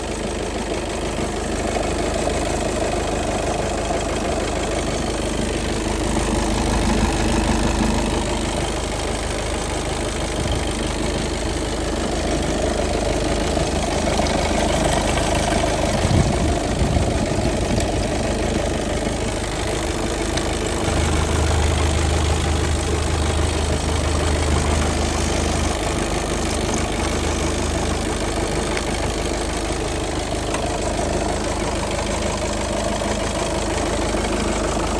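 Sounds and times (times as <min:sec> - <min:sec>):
car engine idling: 0:00.0 - 0:34.9
deep drone: 0:01.6 - 0:34.9.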